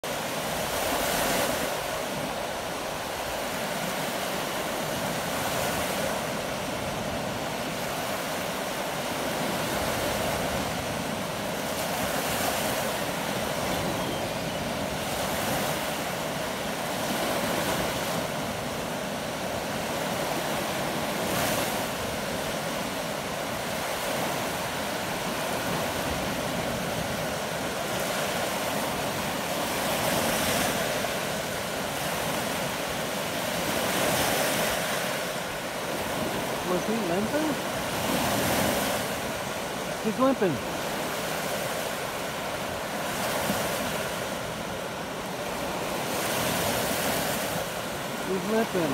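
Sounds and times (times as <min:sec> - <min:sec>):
small waves breaking on shore: 0:00.0 - 0:48.9.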